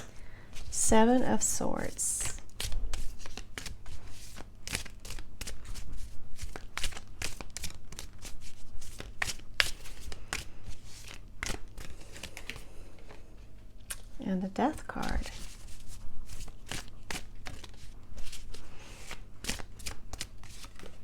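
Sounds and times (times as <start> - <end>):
cards being shuffled: 2.2 - 21.0.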